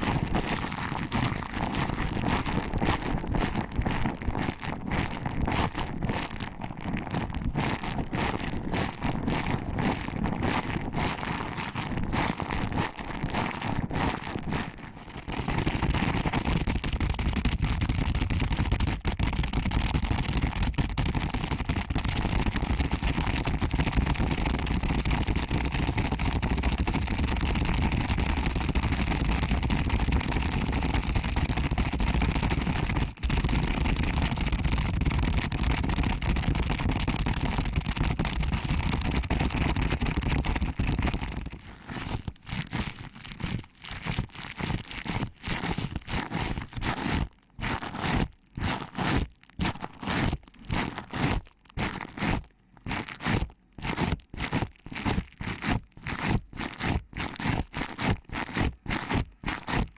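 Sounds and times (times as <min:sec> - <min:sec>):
rubbing of ear microphone: 0:00.0 - 0:59.9.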